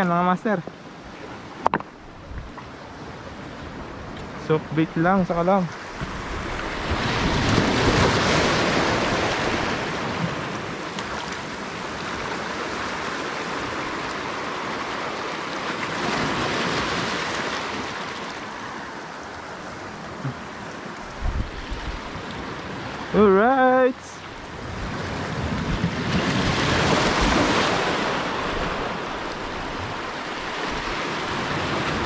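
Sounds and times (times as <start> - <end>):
waves washing over rocks: 0.0 - 32.0.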